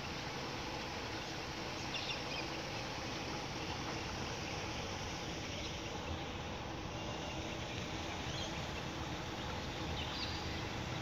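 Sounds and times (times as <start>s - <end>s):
faint outdoor background hiss: 0.0s - 11.0s.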